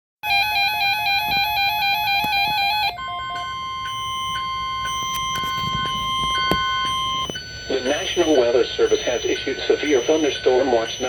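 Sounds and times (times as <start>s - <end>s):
higher beep switching on and off: 0.2s - 11.0s
steady warning tone: 0.2s - 11.0s.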